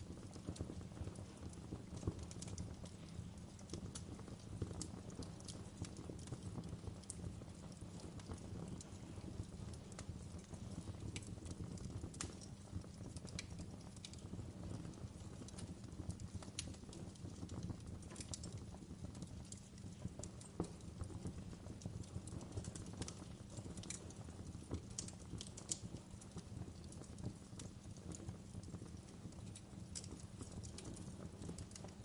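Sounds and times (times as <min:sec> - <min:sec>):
burning logs crackling and popping: 0:00.0 - 0:32.0
low rumble of flames: 0:00.0 - 0:32.0.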